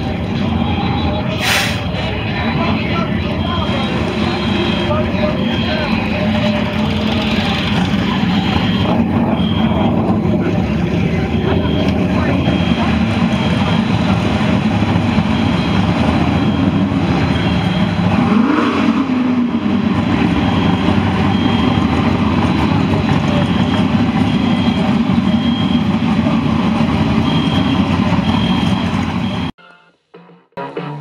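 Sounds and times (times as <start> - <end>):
faint high beeps: 0.0 - 18.6, 20.0 - 29.5
diesel engine running loudly: 0.0 - 29.5.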